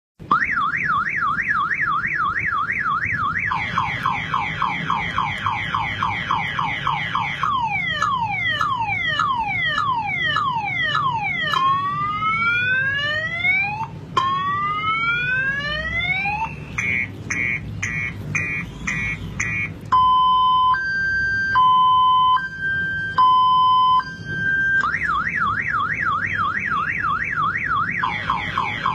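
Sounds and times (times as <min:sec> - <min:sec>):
car alarm siren: 0:00.2 - 0:28.9.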